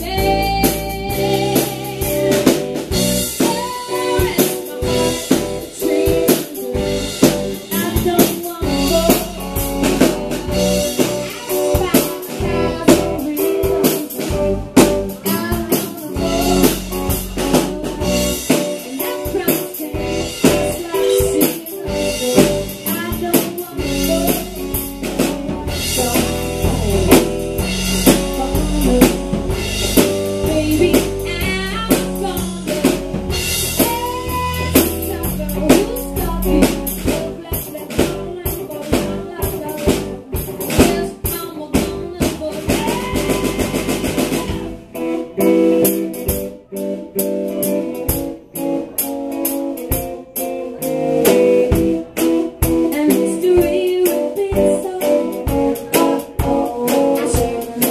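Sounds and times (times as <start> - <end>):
drum kit beat with snare: 0.0 - 57.9
electric guitar: 0.0 - 57.9
person singing: 0.0 - 57.9.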